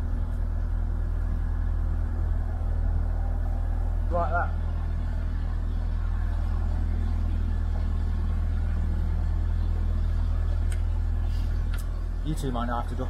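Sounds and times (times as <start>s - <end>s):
boat diesel engine rumbling: 0.0s - 13.0s.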